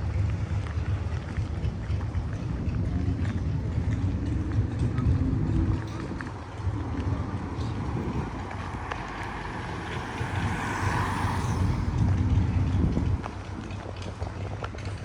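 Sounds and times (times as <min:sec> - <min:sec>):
low traffic rumble: 0:00.0 - 0:15.0
passing vehicle tyre noise: 0:00.0 - 0:15.0.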